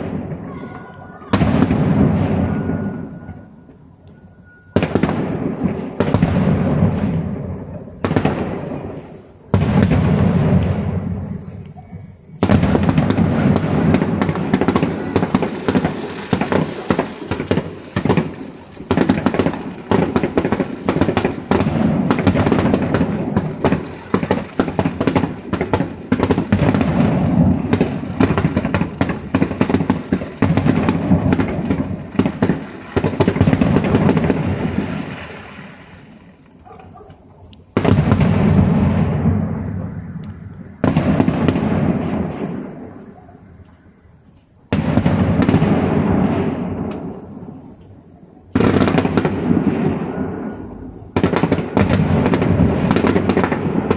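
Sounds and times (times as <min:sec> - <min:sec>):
big firework bursts: 0:00.0 - 0:53.9
fireworks bangs and crackling: 0:00.0 - 0:53.9.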